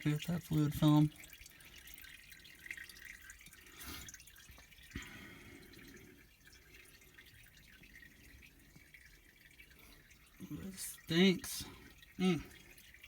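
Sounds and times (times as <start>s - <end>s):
oil dripping into a pan: 0.0s - 13.0s.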